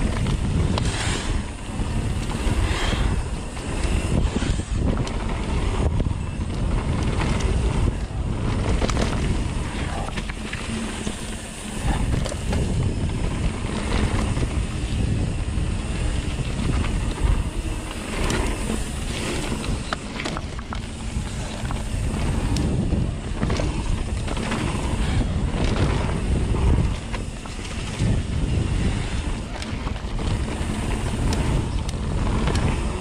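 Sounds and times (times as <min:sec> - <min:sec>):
bike tyres rumbling on dirt: 0:00.0 - 0:33.0
wind buffeting microphone: 0:00.0 - 0:33.0.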